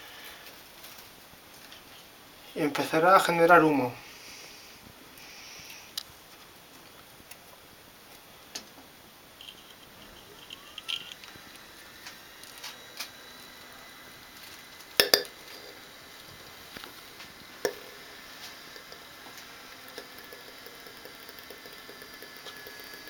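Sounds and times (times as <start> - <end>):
faint steady background noise: 0.0 - 23.0.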